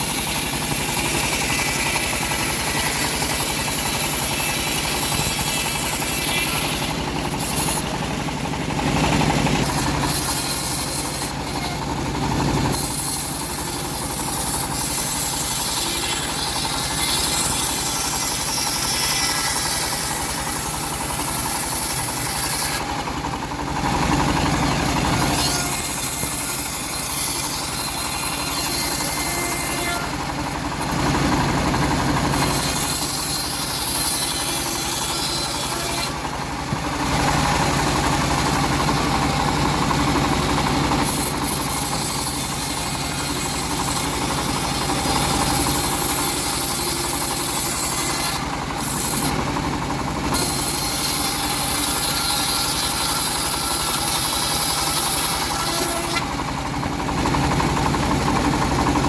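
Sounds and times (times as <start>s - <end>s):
engine-driven bandsaw sawing wood: 0.0s - 59.0s.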